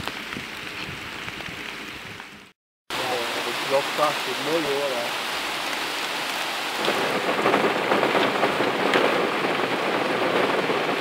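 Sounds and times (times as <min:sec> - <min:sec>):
heavy rain pattering: 0:00.0 - 0:11.0.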